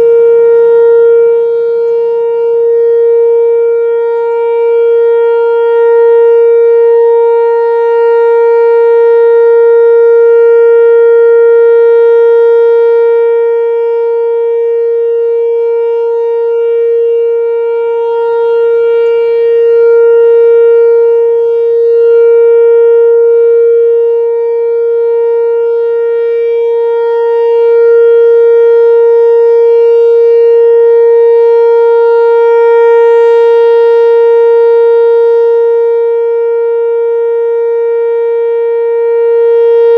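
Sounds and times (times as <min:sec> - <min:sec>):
loud sustained steady tone: 0:00.0 - 0:39.9.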